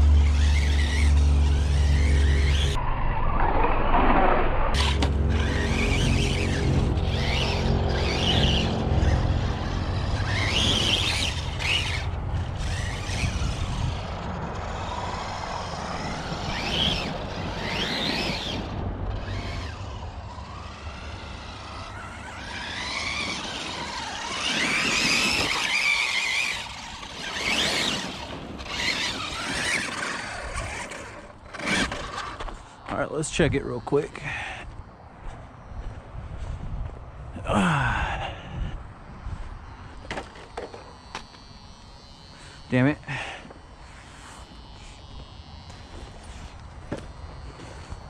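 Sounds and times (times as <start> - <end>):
tyres skidding: 0.0 - 35.1, 38.8 - 48.0
electric motor whining: 0.0 - 36.0, 38.9 - 48.0.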